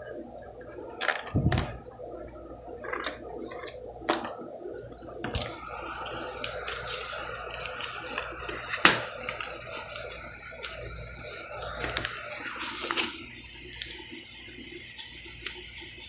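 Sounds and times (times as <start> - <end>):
blister packaging crinkling: 0.1 - 14.2.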